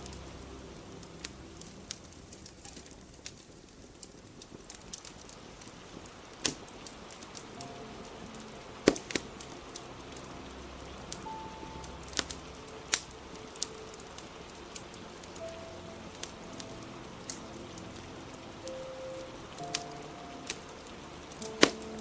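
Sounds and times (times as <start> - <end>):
fire crackling and popping: 0.0 - 22.0
rain hissing: 0.0 - 22.0.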